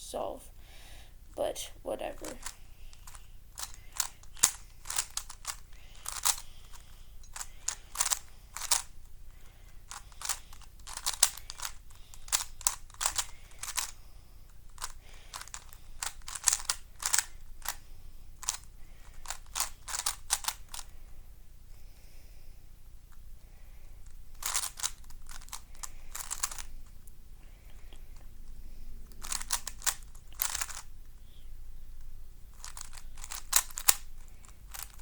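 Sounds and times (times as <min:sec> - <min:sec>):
puzzle cube clacking: 0:02.0 - 0:21.2, 0:23.1 - 0:35.0.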